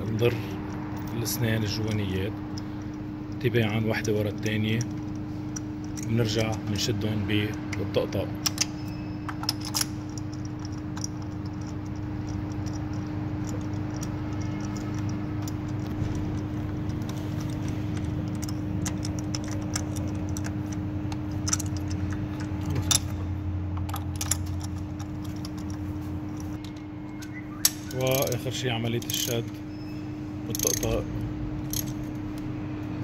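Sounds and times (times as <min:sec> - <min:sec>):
ratchet metallic clicks: 0:00.0 - 0:32.5
steady background hum: 0:00.0 - 0:33.0.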